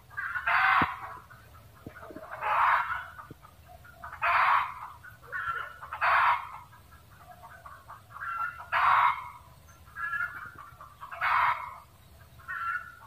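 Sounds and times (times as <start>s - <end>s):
junglefowl clucking: 0.0s - 13.0s
junglefowl harsh cackles: 0.1s - 13.0s.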